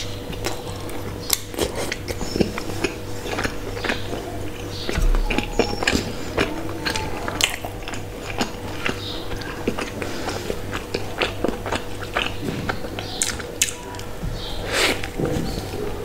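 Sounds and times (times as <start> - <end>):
person chewing bread: 0.0 - 16.0.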